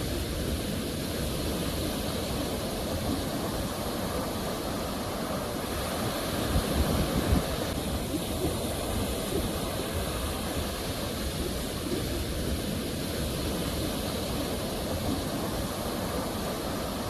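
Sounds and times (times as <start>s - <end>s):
sea waves rushing: 0.0s - 17.0s.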